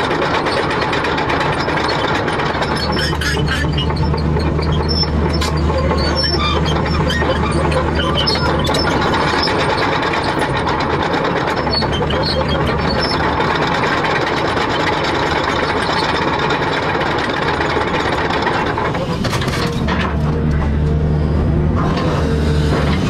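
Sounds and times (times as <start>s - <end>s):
metal clanks and rattles: 0.0s - 21.0s
excavator engine running: 0.0s - 23.0s.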